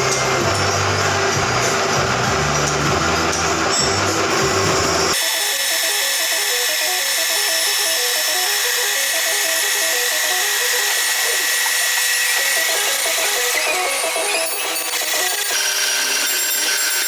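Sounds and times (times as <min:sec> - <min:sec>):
lathe cutting whine: 0:00.8 - 0:17.0.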